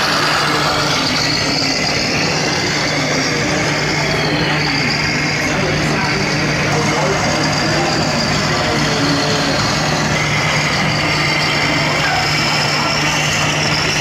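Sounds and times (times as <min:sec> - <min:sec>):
simulated diesel engine hum: 0:00.0 - 0:14.0.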